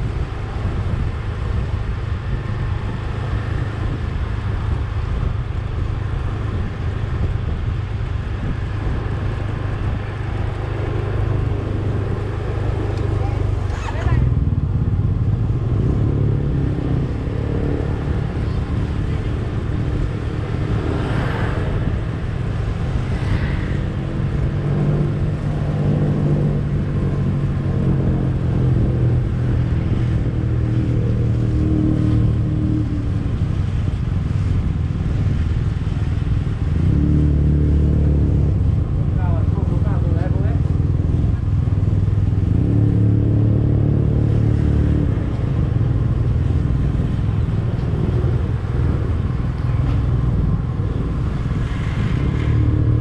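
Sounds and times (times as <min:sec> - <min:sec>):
vehicle engine humming: 0:00.0 - 0:53.0.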